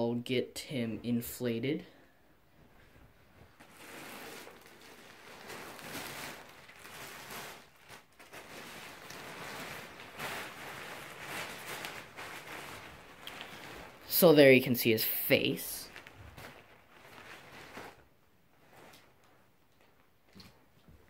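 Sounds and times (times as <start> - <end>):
plastic bag and fabric rustling: 2.6 - 21.0.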